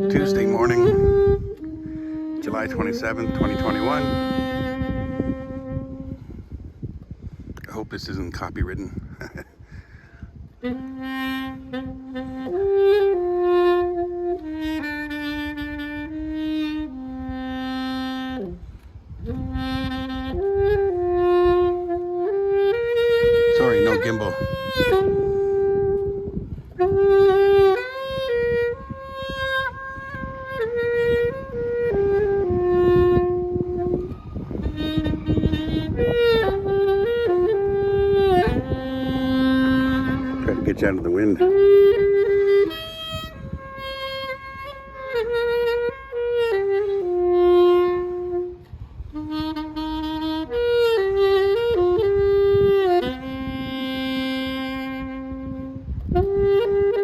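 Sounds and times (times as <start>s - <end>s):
saxophone playing slow melody: 0.0s - 7.3s, 9.8s - 57.0s
wind buffeting microphone: 0.0s - 57.0s.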